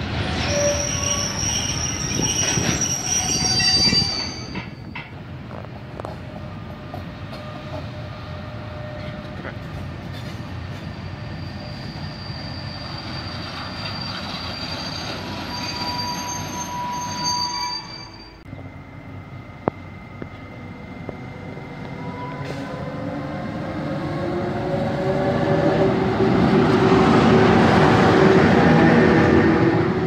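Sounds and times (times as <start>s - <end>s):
freight train rumble: 0.0s - 17.2s, 17.8s - 30.0s
train wheels squealing on rails: 0.0s - 18.5s, 20.3s - 27.4s.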